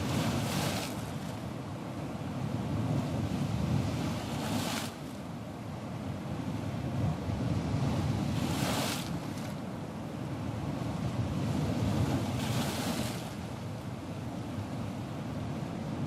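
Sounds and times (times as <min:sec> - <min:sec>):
low rumble of waves: 0:00.0 - 0:16.0.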